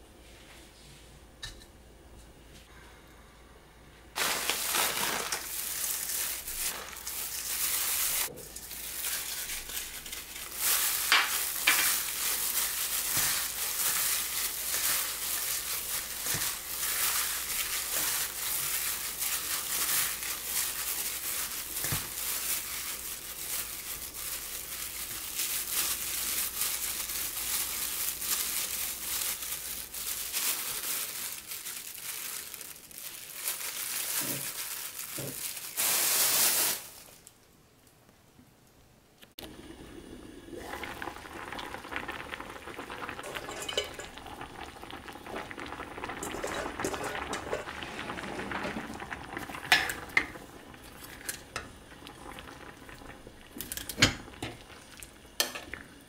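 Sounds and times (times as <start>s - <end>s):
plastic glove crinkling rice: 4.1s - 37.4s, 41.0s - 53.9s.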